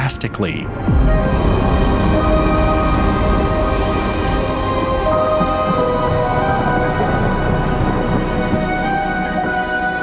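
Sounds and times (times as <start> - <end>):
dark ambient music: 0.0 - 10.0.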